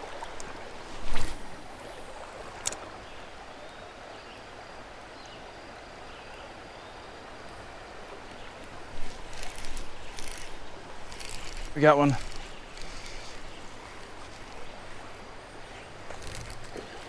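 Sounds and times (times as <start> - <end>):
creek water running: 0.0 - 17.0.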